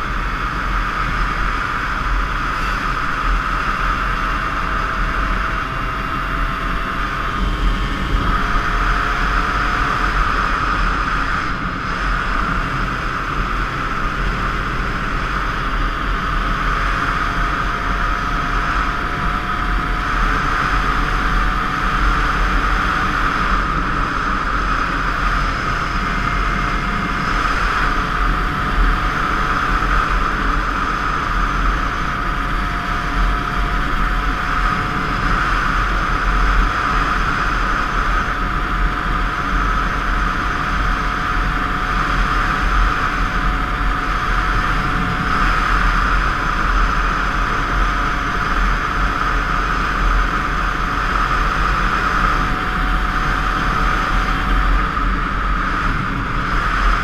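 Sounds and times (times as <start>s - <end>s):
two-stroke motorcycle engine running: 0.0s - 57.0s
wind rushing over microphone: 0.0s - 57.0s.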